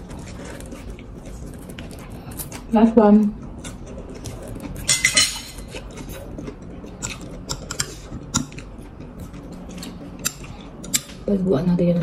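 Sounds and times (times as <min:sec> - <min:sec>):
crunchy chewing: 0:00.0 - 0:11.3.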